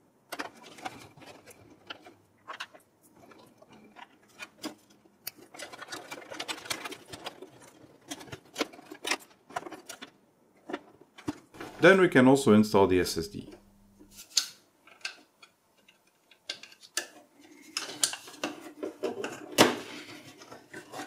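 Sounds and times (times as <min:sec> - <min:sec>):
wires rustling: 0:00.3 - 0:12.6, 0:13.2 - 0:21.0.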